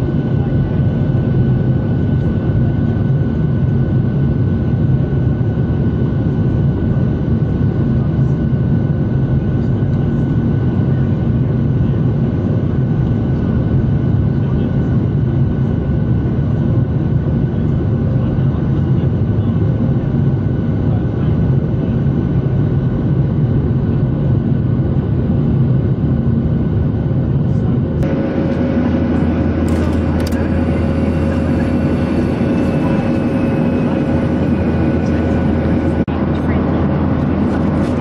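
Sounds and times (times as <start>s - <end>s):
jet engine drone in cabin: 0.0s - 38.0s.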